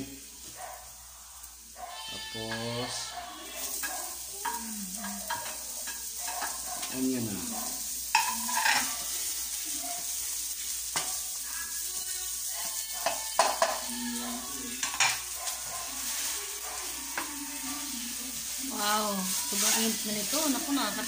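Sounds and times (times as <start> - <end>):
onion sizzling in a wok: 0.0 - 21.0
spatula scraping a pan: 2.2 - 21.0.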